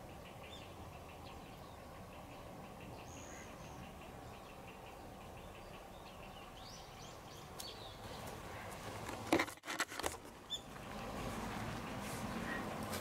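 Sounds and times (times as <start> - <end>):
small birds chirping: 0.0 - 9.2, 10.3 - 13.0.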